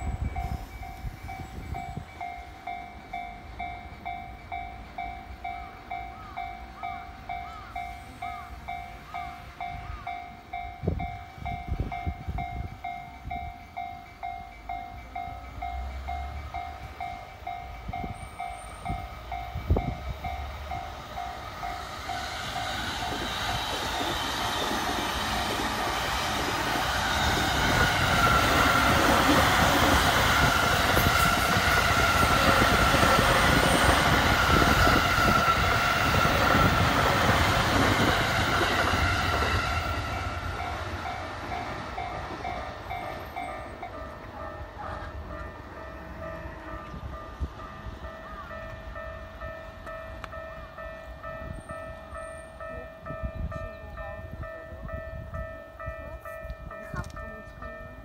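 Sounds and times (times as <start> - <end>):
commuter train passing: 0.0 - 58.0
level crossing alarm bell: 0.0 - 58.0.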